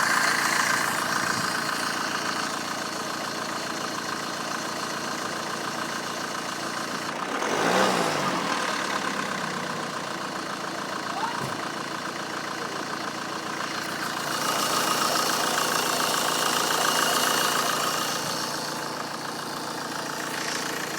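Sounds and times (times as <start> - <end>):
diesel engine running: 0.0 - 20.9
odd turbocharger noise: 0.0 - 20.9.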